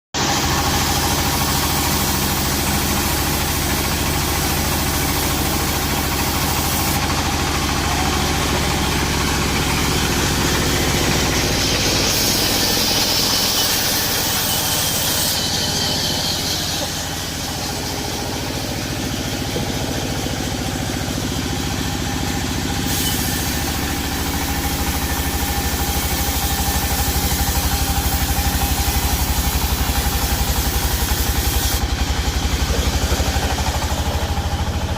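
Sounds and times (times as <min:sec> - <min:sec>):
high-pitched machine noise: 0:00.2 - 0:34.9
sawmill machinery droning: 0:00.2 - 0:34.9.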